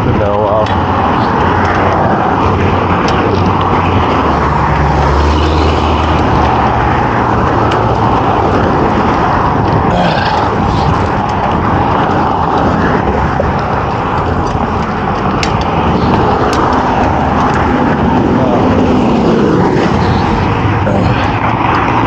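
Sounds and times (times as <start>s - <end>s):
low vehicle hum: 0.0s - 22.0s
wind and road noise: 0.0s - 22.0s.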